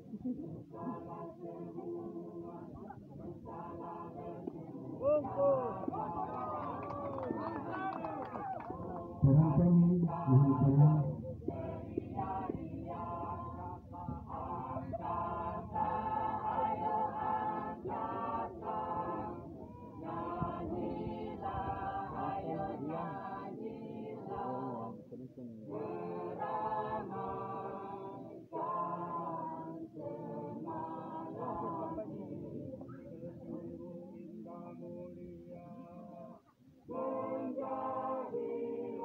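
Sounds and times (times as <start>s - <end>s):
group singing unaccompanied: 0.0s - 39.0s.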